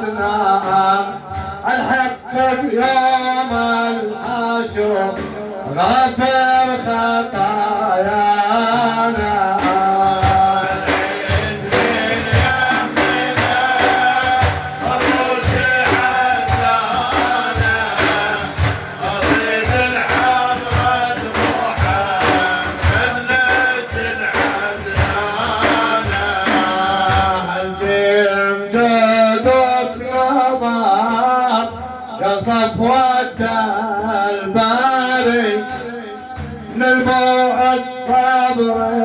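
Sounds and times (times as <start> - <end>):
frame drums beating: 0.0 - 39.0.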